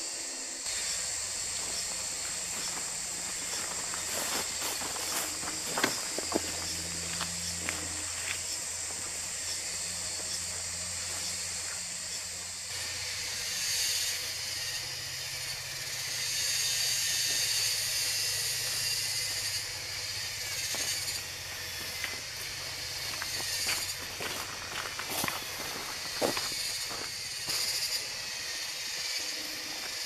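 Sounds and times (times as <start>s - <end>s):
high-pitched hiss: 0.0s - 30.0s.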